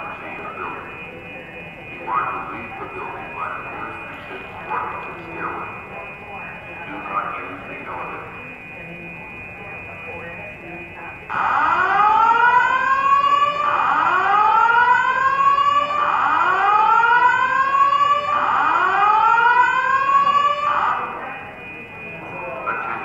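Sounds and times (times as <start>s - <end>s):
fire alarm whooping: 0.0s - 23.0s.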